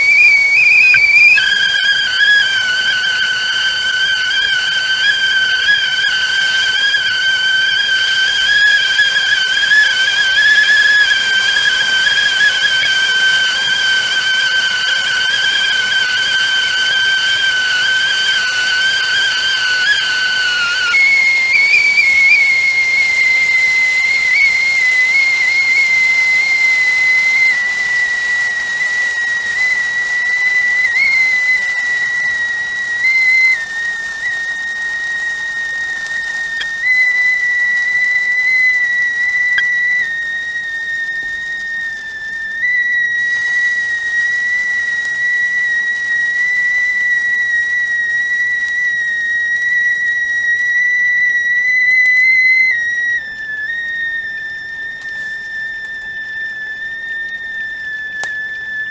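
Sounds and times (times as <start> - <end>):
kettle whistling: 0.0 - 58.9
steam hissing: 0.0 - 58.9.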